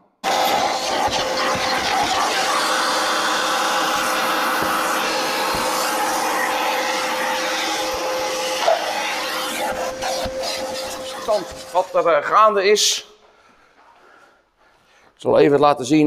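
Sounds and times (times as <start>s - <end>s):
vacuum cleaner running: 0.0s - 12.9s.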